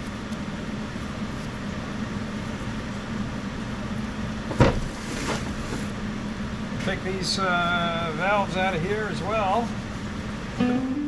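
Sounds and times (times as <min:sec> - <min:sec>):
workshop equipment humming: 0:00.0 - 0:11.0.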